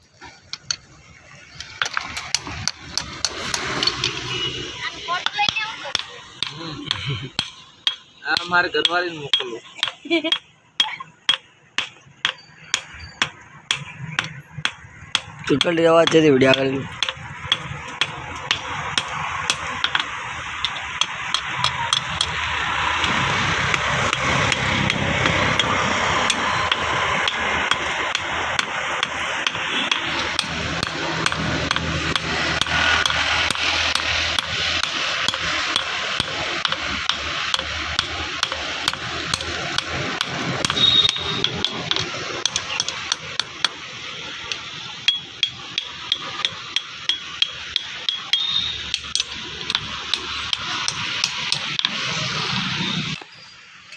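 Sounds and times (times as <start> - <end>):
steady rushing noise: 0.0 - 53.9
hammer striking metal on anvil: 5.2 - 22.4, 23.0 - 43.8, 45.1 - 52.1.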